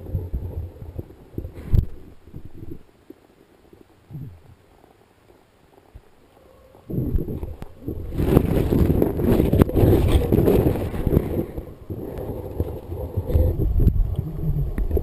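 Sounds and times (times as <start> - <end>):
underwater rushing water: 0.0 - 15.0.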